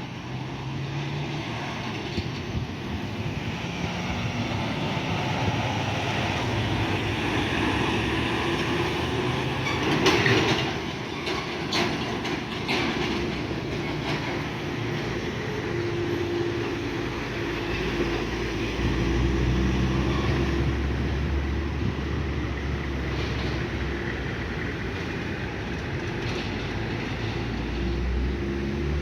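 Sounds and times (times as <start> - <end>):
heavy truck diesel engine rumbling: 0.0 - 29.0.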